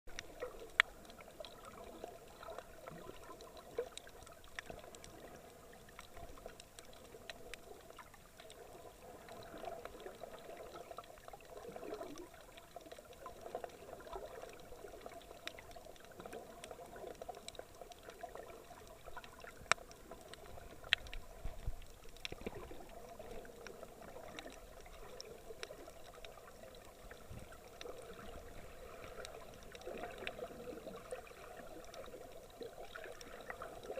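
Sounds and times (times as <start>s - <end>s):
water sloshing around camera: 0.1s - 33.9s.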